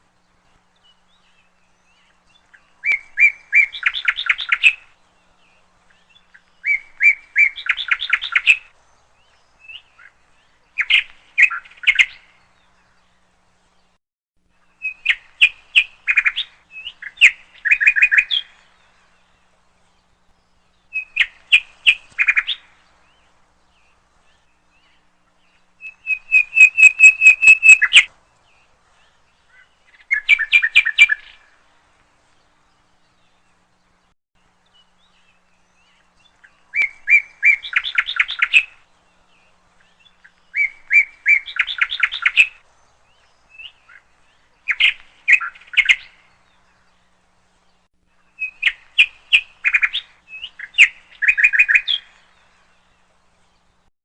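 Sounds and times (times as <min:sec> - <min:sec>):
small bird chirping: 0:00.1 - 0:14.0, 0:14.6 - 0:31.5, 0:34.7 - 0:47.2, 0:47.8 - 0:53.9.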